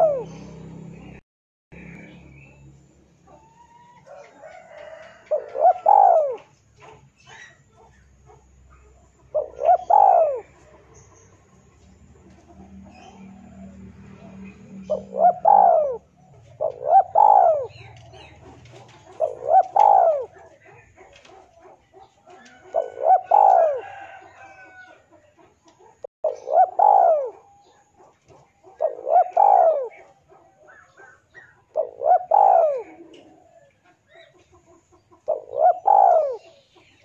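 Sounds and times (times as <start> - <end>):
dove cooing: 0.0 - 0.6, 3.3 - 11.4, 12.3 - 37.0.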